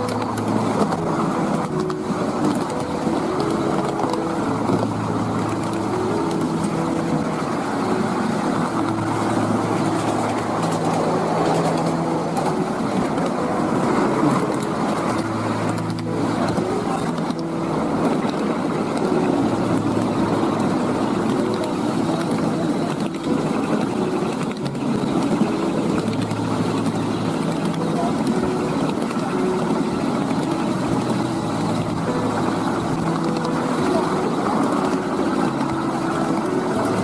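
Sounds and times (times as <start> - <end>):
steady hums: 0.0 - 37.0
train wheels rumbling on rails: 0.0 - 37.0.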